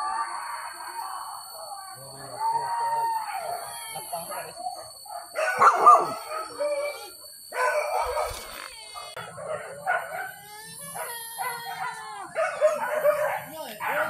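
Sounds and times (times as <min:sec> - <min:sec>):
dogs baying and howling: 0:00.0 - 0:14.0.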